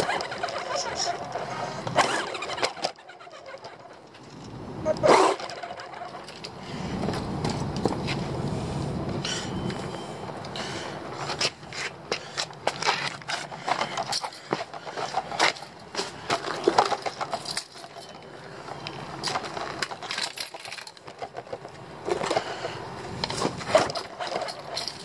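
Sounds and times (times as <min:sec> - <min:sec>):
rc car tyres rattling on concrete: 0:00.0 - 0:07.9, 0:11.2 - 0:25.0.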